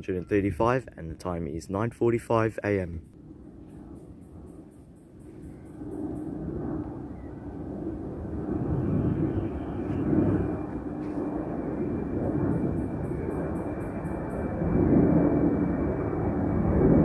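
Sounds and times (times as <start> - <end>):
jet engines rumbling: 0.0 - 17.0
jet engine whine: 2.6 - 17.0.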